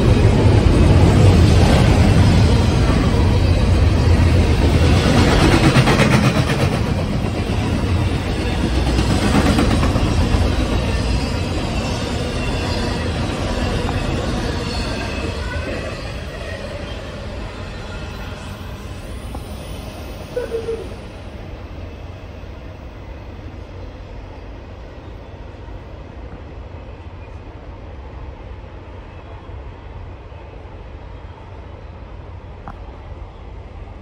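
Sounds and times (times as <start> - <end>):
freight train rolling: 0.0 - 34.0.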